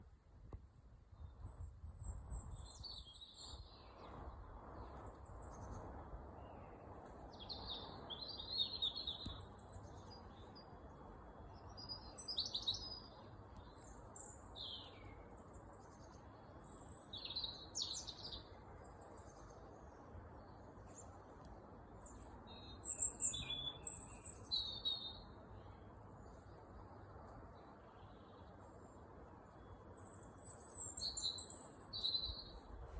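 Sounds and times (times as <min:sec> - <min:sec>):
low background noise: 0:00.0 - 0:32.9.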